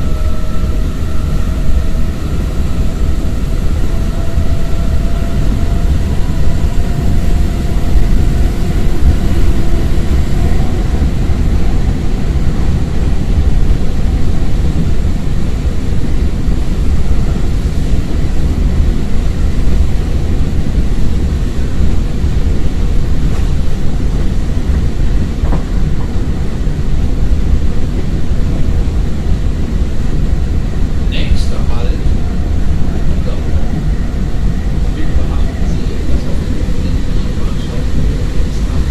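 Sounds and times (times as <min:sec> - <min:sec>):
electric train running at speed: 0:00.0 - 0:38.9.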